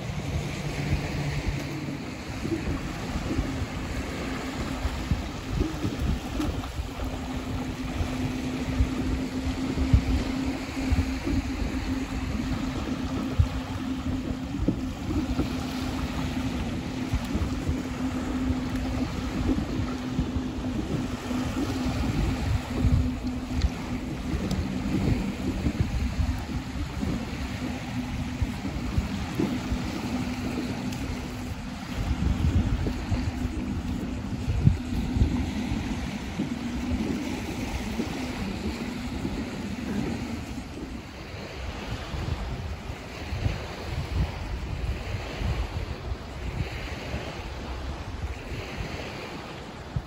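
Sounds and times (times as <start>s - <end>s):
steady low hum: 0.0s - 50.0s
surf washing in: 0.0s - 50.0s
wind buffeting microphone: 0.0s - 50.0s.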